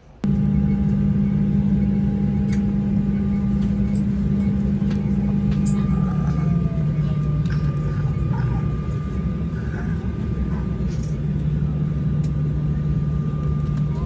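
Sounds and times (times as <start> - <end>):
vehicle engine drone from inside: 0.2 - 14.0.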